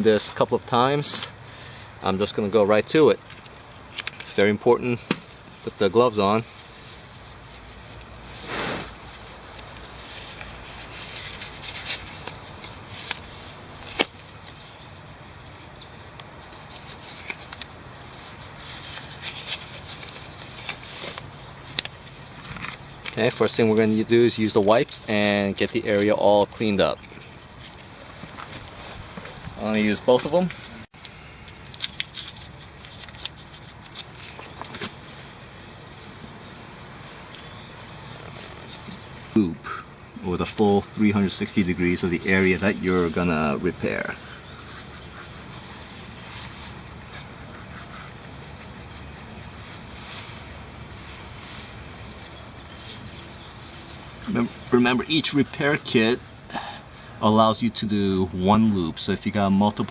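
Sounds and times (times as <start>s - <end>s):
steady faint hiss: 0.0s - 59.9s
gloves rustling: 0.2s - 39.5s, 40.2s - 57.2s.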